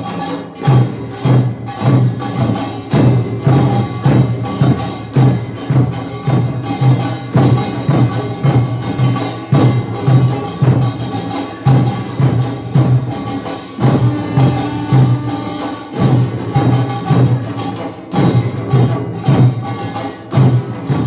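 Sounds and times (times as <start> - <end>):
drums: 0.0 - 21.0
gongs: 0.0 - 21.0.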